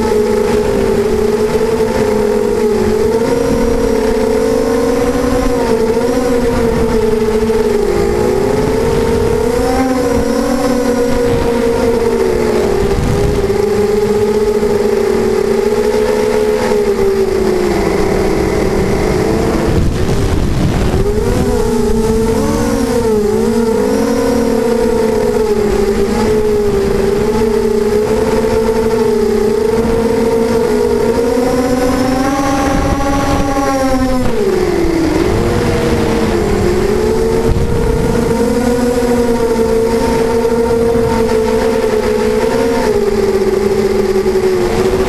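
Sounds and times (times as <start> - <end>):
quadcopter motors whining: 0.0 - 45.0.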